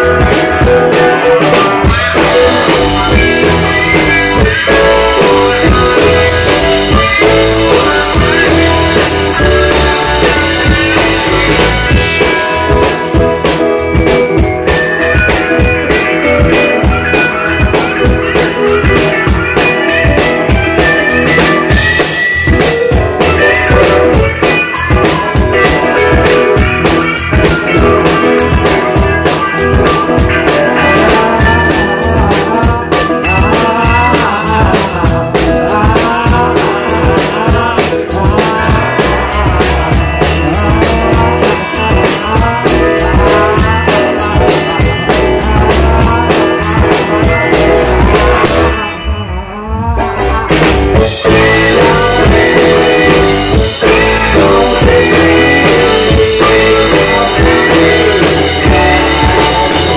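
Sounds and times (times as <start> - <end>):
bass: 0.0 - 59.9
drum kit beat: 0.0 - 59.9
electric guitar: 0.0 - 59.9
keyboard: 0.0 - 59.9.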